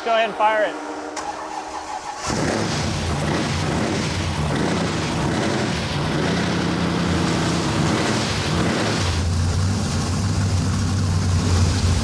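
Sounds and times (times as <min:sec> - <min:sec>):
car engine starting and idling: 0:00.8 - 0:12.0.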